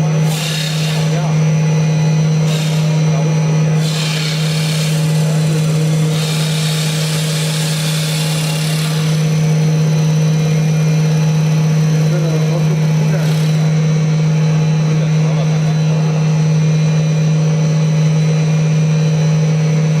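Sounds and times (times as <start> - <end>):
wood lathe humming: 0.0 - 20.0.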